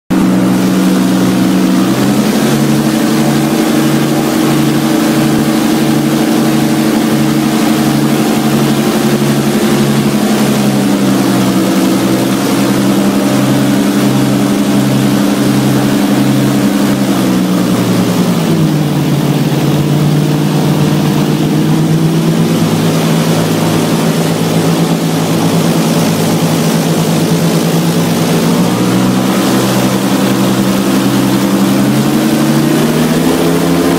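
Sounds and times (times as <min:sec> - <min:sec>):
airboat engine and propeller: 0:00.1 - 0:33.9.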